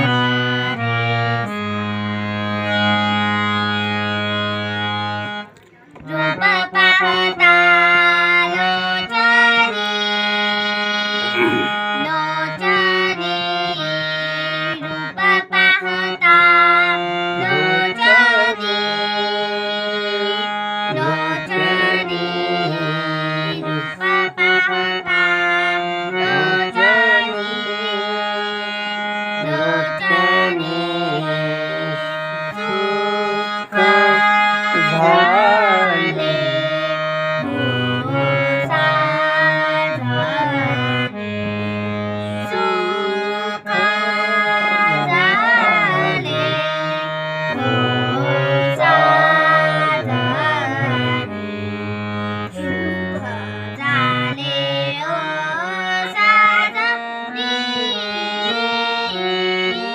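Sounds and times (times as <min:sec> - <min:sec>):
harmonium melody with drone: 0:00.0 - 0:59.9
person singing: 0:05.5 - 0:59.9.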